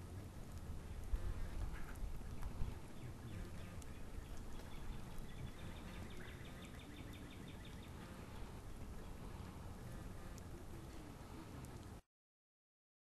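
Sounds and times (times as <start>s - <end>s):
low rumble: 0.0s - 12.0s
rapid rattling animal call: 0.8s - 11.8s.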